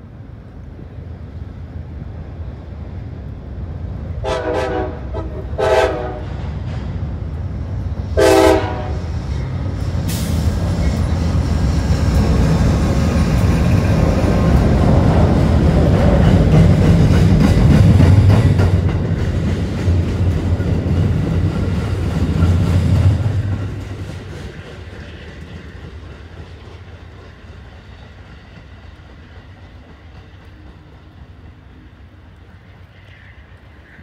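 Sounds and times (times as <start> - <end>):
train coaches rumbling past: 0.0 - 34.0.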